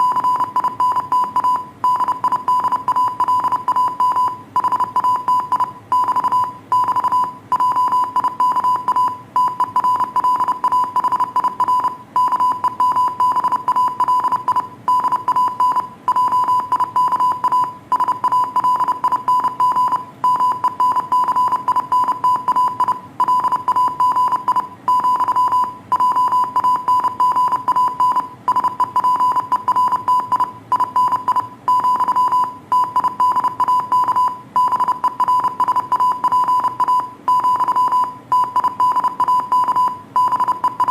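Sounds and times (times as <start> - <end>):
morse code beeps: 0.0 - 40.9.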